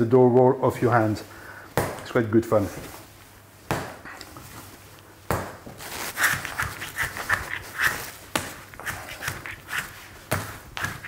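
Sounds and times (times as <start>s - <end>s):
sticky dough handling: 1.8s - 11.0s.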